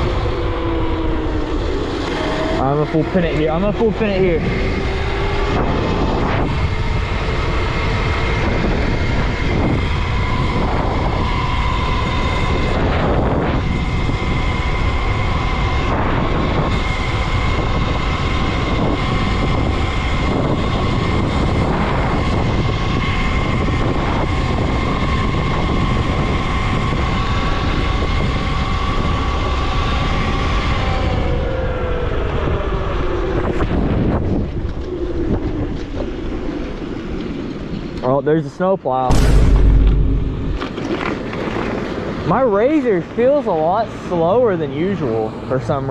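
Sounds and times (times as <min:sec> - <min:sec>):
electric motor whine: 0:00.0 - 0:38.0
wind noise on microphone: 0:00.0 - 0:45.9.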